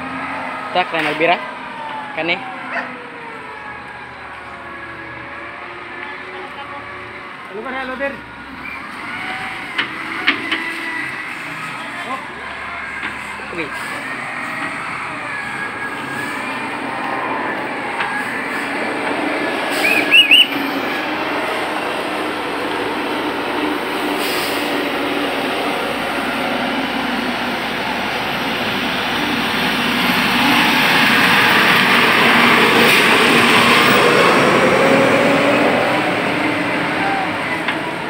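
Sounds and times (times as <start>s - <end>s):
heavy diesel engine: 0.0s - 38.0s.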